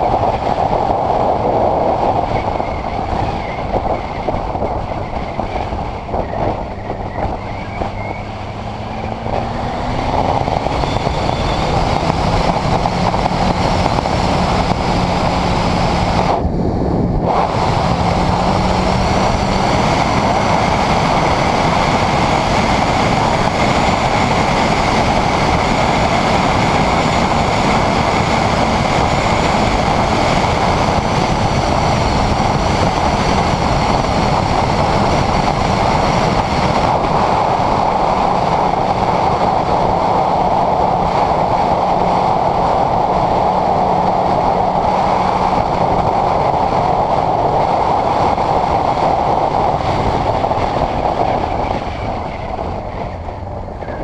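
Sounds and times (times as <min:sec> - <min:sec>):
motorcycle engine: 0:00.0 - 0:54.0
wind rush on microphone: 0:00.0 - 0:54.0.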